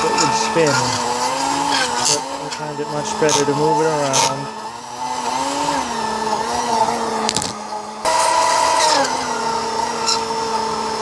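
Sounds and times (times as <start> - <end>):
blade churning milkshake in can: 0.0 - 11.0
drink mixer motor hum: 0.0 - 11.0.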